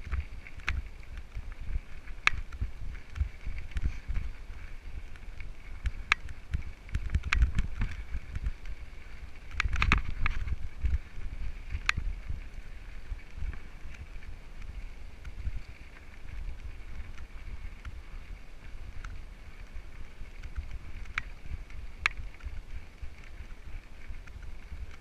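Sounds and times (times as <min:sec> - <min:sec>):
mountain bike rolling on dirt: 0:00.0 - 0:25.0
wind rumbling on microphone: 0:00.0 - 0:25.0.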